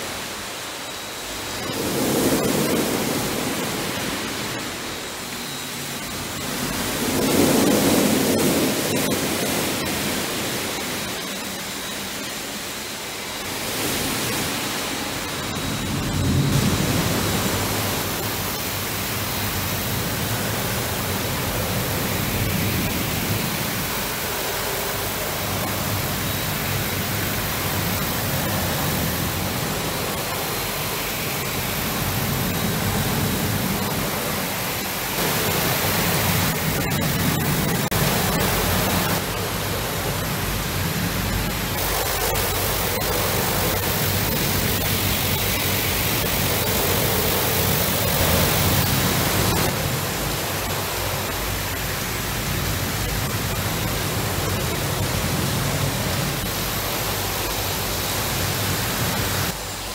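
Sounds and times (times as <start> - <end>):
truck wash brushes and water spray: 0.0 - 59.9.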